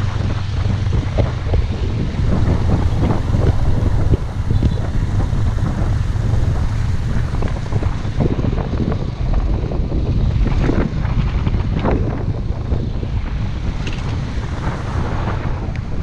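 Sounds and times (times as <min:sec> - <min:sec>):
motorbike engine and road rumble: 0:00.0 - 0:16.0
wind buffeting microphone: 0:00.0 - 0:16.0.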